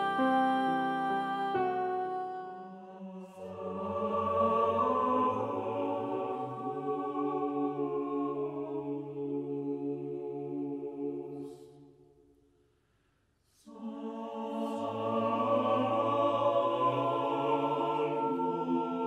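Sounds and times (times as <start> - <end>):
chant-like choral chords: 0.0 - 12.2, 13.6 - 19.0.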